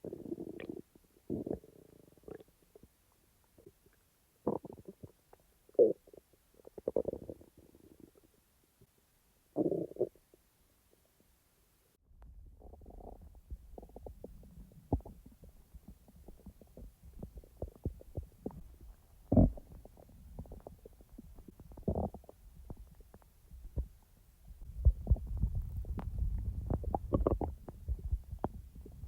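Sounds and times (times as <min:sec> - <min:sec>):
stomach gurgling and rumbling: 0:00.0 - 0:08.9, 0:09.5 - 0:10.4, 0:12.1 - 0:29.0.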